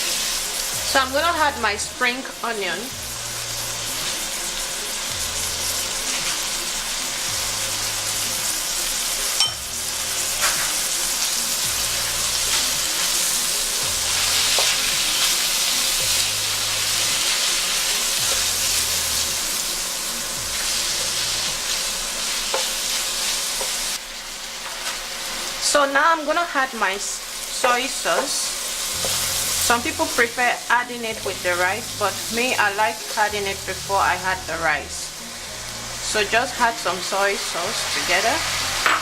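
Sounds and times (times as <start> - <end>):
food sizzling in hot oil: 0.0 - 39.0.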